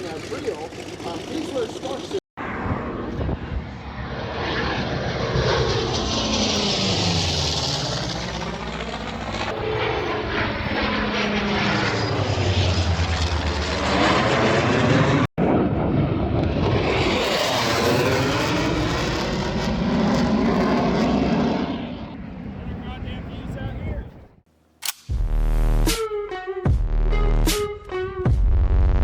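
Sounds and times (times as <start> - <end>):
propeller plane flying past: 0.0 - 23.6.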